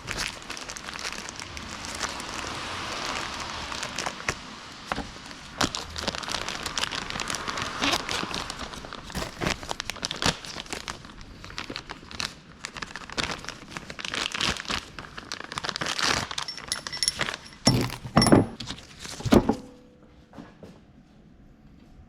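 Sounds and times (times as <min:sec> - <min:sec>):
crinkling rustling handling noise: 0:00.0 - 0:19.3.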